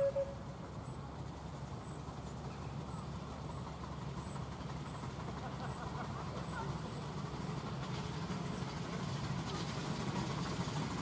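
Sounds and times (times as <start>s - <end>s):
low rumble of a train: 0.0s - 11.0s.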